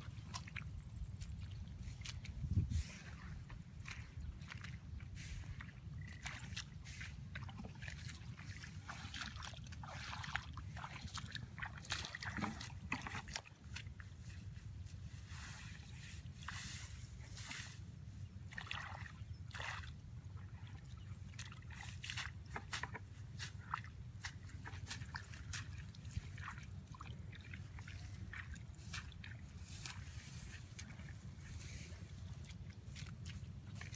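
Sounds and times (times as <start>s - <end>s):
water splashing and sloshing: 0.0s - 33.9s.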